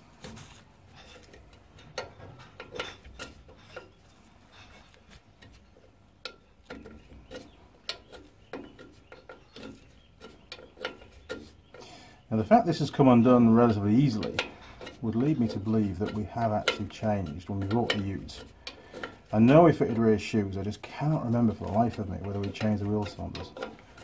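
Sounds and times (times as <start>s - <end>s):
spanner clicking and scraping on metal: 0.2s - 24.0s.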